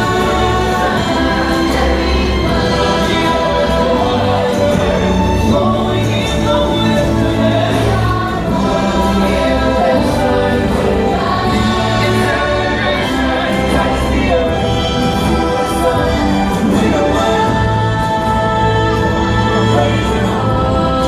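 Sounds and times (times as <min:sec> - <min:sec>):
choir singing: 0:00.0 - 0:21.0
orchestral music over speakers: 0:00.0 - 0:21.0.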